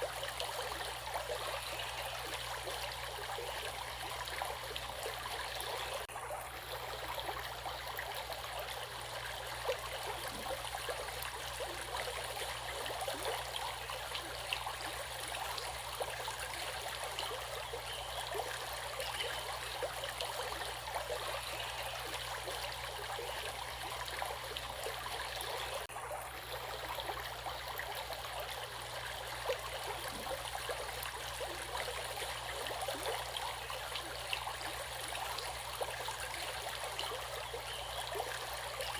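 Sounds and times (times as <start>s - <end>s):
stream flowing with splashes: 0.0s - 38.9s.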